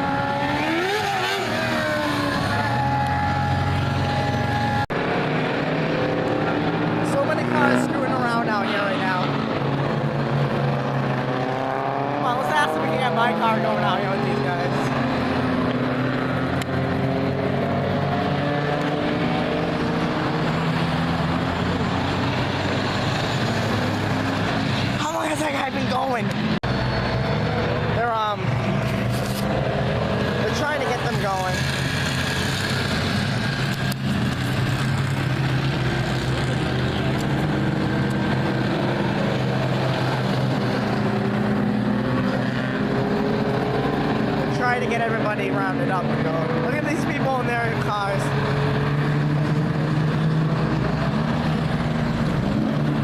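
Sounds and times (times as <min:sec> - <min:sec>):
race car engines droning: 0:00.0 - 0:53.0.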